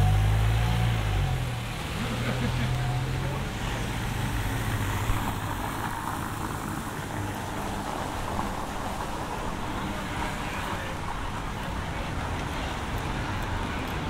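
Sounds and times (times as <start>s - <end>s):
street traffic noise: 0.0s - 14.0s
vehicle engine humming nearby: 0.0s - 14.0s.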